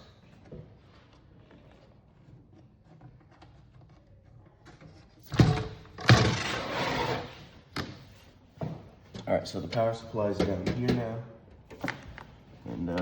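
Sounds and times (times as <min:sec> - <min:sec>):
sliding and scraping into place: 0:00.0 - 0:13.0.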